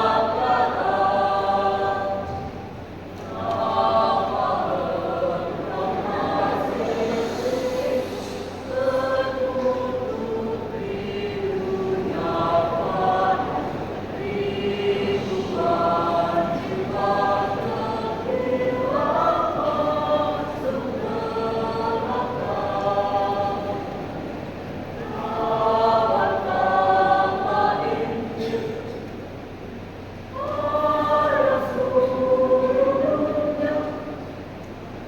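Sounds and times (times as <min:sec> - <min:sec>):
youth choir singing: 0:00.0 - 0:35.0.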